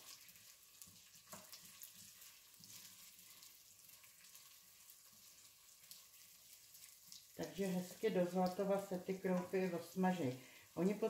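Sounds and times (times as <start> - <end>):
grain sizzling in hot oil: 0.0 - 11.0.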